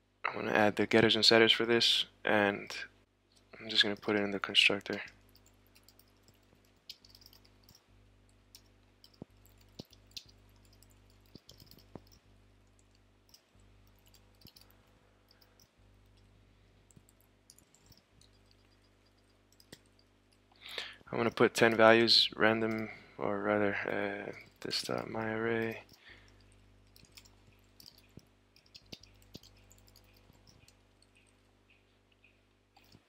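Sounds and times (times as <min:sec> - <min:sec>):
low steady hum: 0:00.0 - 0:33.0
keyboard typing: 0:03.4 - 0:20.4, 0:21.2 - 0:23.0, 0:23.9 - 0:31.8, 0:32.8 - 0:33.0.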